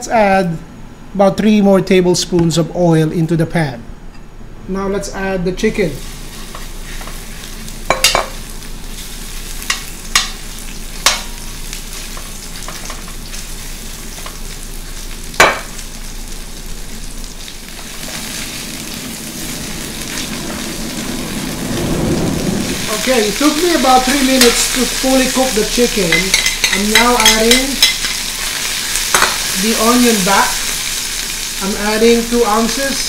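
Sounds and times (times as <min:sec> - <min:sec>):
chicken sizzling in hot oil: 0:06.0 - 0:33.0.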